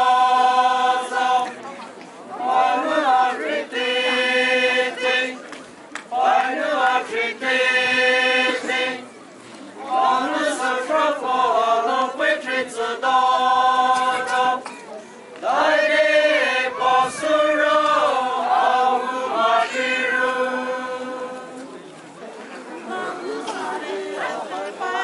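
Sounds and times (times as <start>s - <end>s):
group singing a chant: 0.0s - 1.6s, 2.4s - 5.4s, 6.1s - 9.1s, 9.8s - 14.7s, 15.4s - 21.7s, 22.9s - 25.0s.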